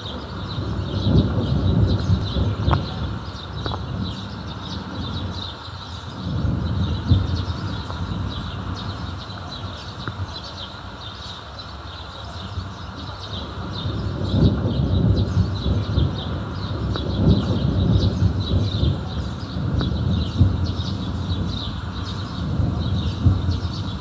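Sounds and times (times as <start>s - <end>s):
distant thunder rumbling: 0.0s - 24.0s
small birds chirping: 0.0s - 24.0s.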